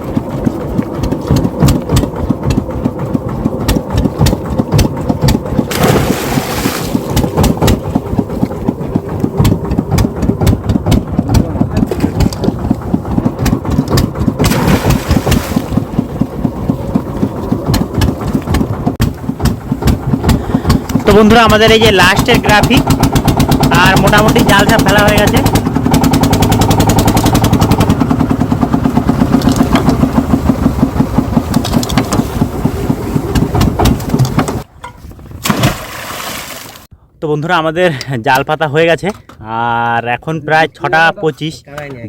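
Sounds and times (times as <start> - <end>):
boat engine thumping: 0.0 - 36.1.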